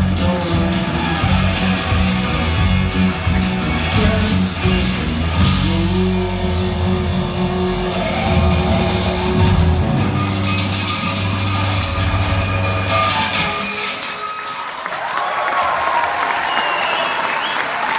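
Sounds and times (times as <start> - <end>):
rock band playing: 0.0 - 14.9.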